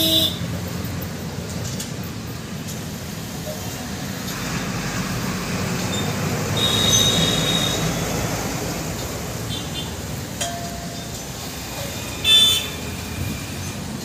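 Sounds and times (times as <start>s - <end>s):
road vehicle passing: 0.0s - 14.0s.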